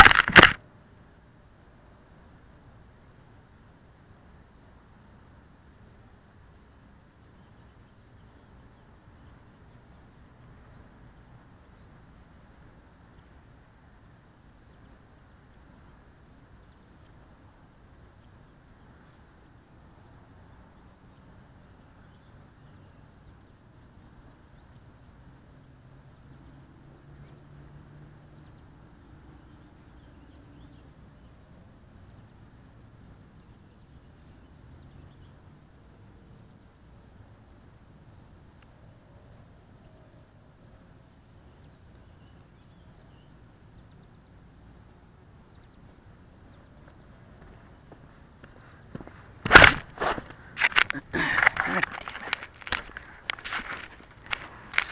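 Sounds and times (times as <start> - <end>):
outdoor background noise: 0.0 - 54.9.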